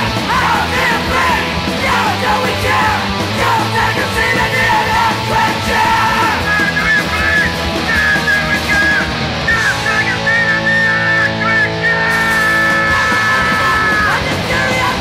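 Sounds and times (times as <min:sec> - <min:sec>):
punk rock distorted guitars: 0:00.0 - 0:15.0.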